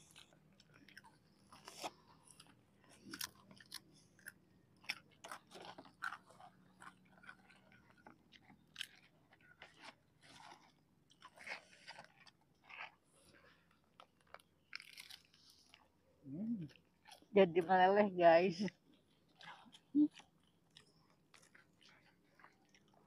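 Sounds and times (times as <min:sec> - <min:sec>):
chewing crispy fried snacks: 0:00.0 - 0:17.7, 0:18.4 - 0:23.0.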